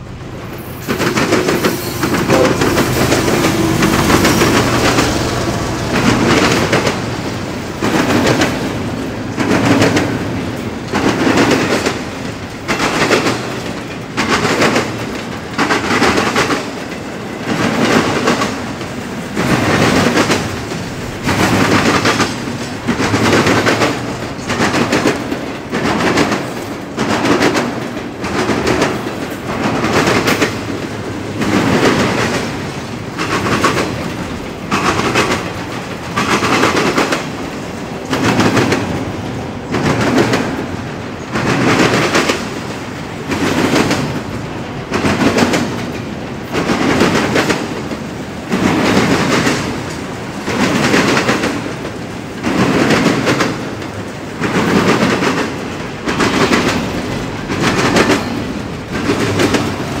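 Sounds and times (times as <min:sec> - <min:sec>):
train rolling rumble: 0:00.0 - 1:00.0
train wheels clacking over crossing: 0:00.0 - 1:00.0.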